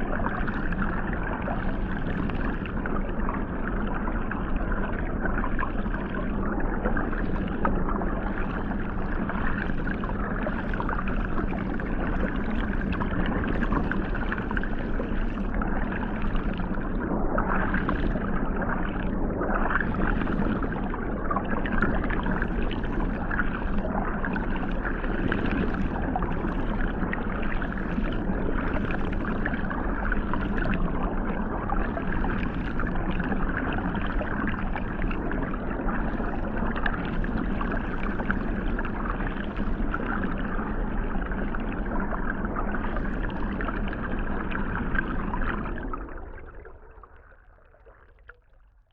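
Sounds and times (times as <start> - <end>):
muffled rush of water jets: 0.0 - 48.9.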